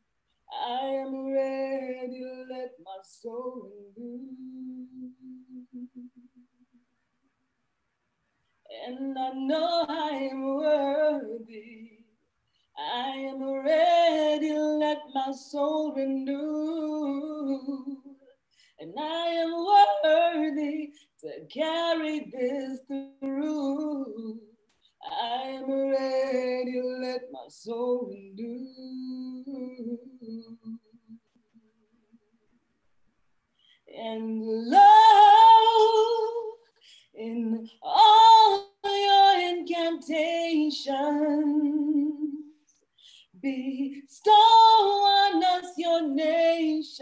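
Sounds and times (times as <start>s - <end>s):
woman singing unaccompanied: 0.5s - 6.4s, 8.7s - 12.2s, 12.8s - 31.2s, 33.9s - 42.5s, 43.1s - 47.0s.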